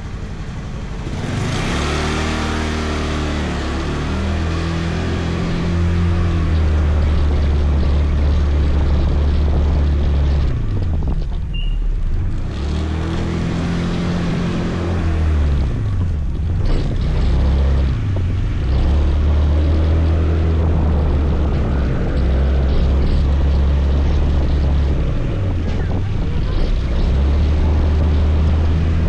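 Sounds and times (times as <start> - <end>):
motor scooter engine: 0.0 - 29.0
steady rushing noise: 0.0 - 29.0.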